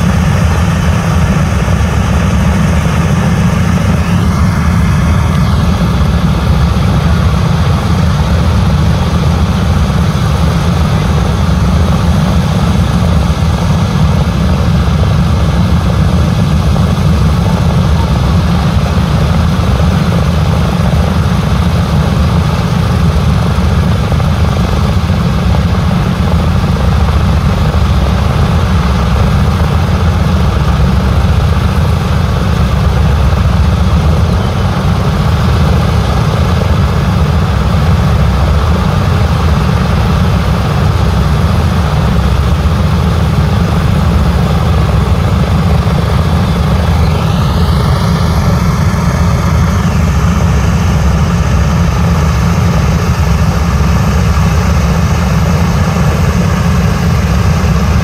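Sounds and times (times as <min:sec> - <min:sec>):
radial engines idling: 0:00.0 - 0:58.0.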